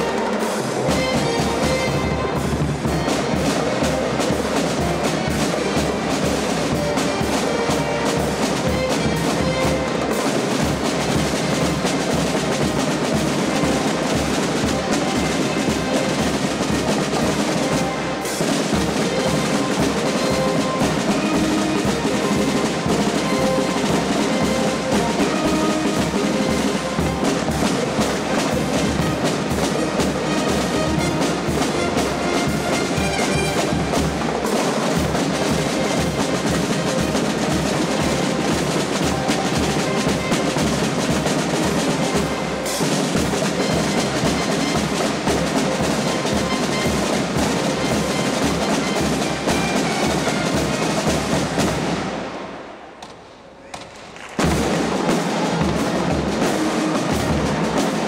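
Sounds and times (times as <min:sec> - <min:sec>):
snare and bass drums playing: 0:00.0 - 0:58.0.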